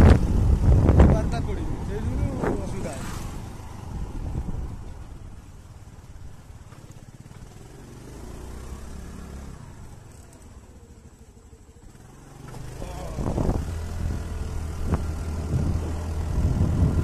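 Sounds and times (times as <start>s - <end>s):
motorbike engine rumbling: 0.0s - 17.0s.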